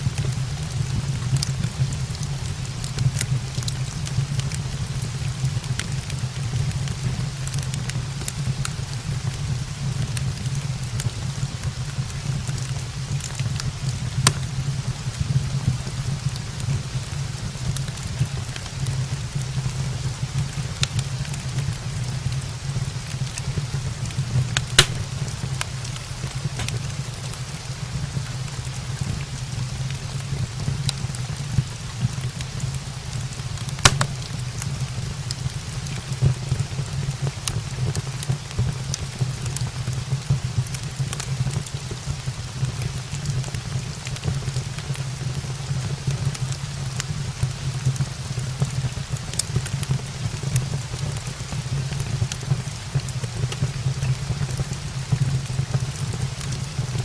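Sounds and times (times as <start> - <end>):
fire crackling and popping: 0.0 - 57.0
steady rain: 0.0 - 57.0.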